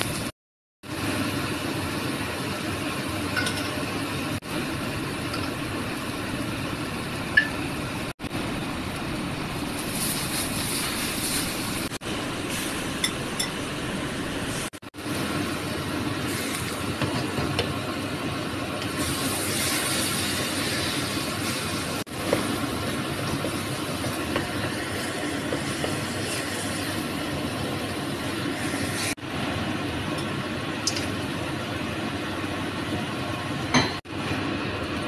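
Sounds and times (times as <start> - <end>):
food sizzling in a wok: 0.0 - 8.7, 9.3 - 33.3.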